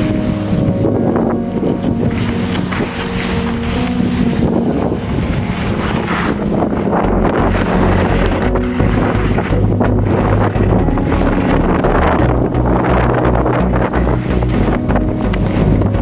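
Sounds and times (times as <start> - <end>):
heavy low rumble: 0.0 - 16.0
wind buffeting microphone: 0.0 - 16.0
skis scraping on packed snow: 1.7 - 16.0.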